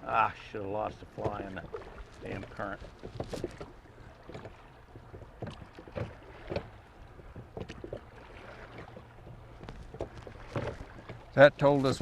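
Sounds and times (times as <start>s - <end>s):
oars knocking and splashing: 0.0s - 12.0s
rushing river water: 0.0s - 12.0s.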